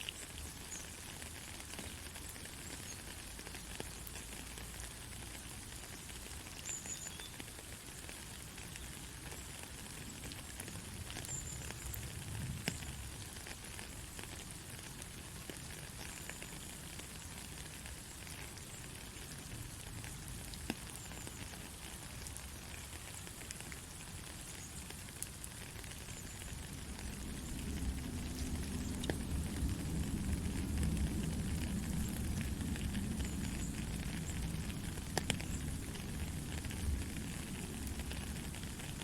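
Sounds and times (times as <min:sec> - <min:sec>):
raindrop ticks: 0:00.0 - 0:39.0
soft rain falling: 0:00.0 - 0:39.0.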